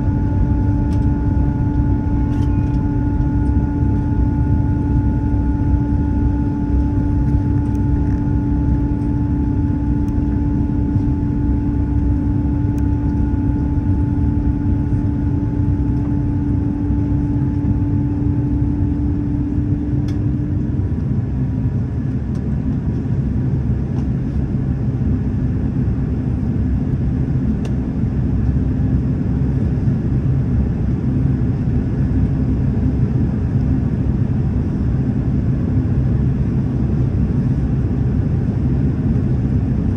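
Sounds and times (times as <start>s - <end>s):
jet engine cabin rumble: 0.0s - 39.9s
steady hum: 0.0s - 39.9s.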